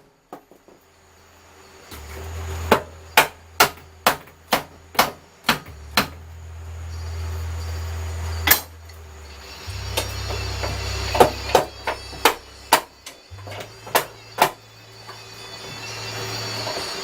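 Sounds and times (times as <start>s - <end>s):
hammer blows: 1.9s - 17.0s.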